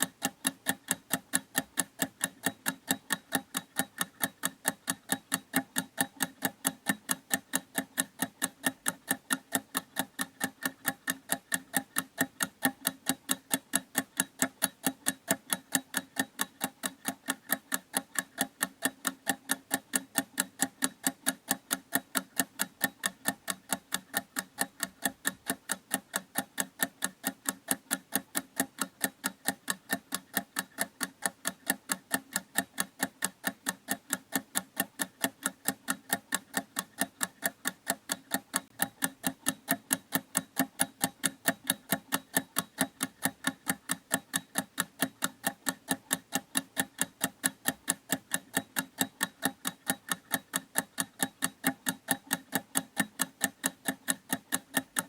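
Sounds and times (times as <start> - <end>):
fast clock ticking: 0.0 - 55.0.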